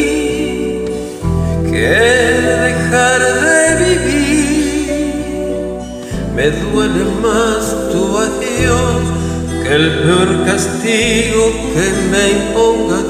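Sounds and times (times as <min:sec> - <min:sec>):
karaoke backing track: 0:00.0 - 0:13.0
man singing a ballad: 0:00.0 - 0:13.0.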